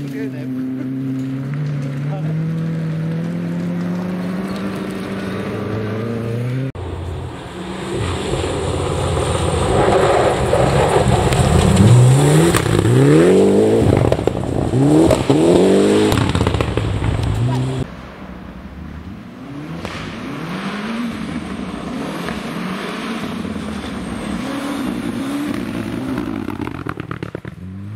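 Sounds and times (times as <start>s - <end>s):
rally car engine revving: 0.0s - 17.9s, 19.3s - 27.9s.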